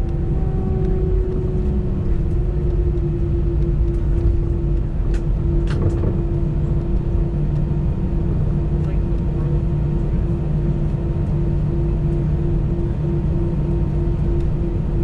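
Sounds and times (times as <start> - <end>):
aircraft engines idling: 0.0 - 15.0.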